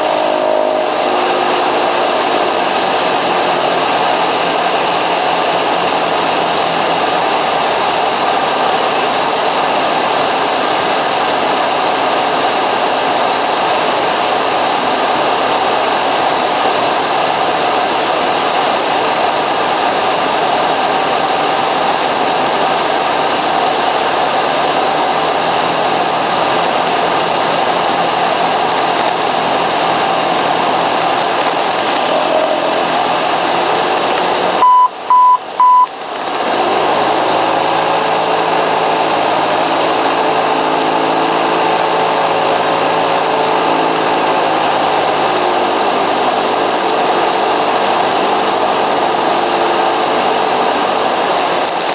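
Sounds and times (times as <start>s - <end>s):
propeller plane engine drone: 0.0s - 51.9s.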